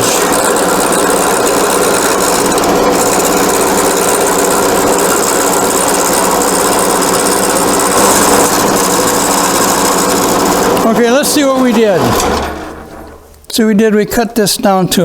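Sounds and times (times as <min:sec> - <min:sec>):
turning tool scraping wood: 0:00.0 - 0:13.6
wood lathe running: 0:00.0 - 0:13.7.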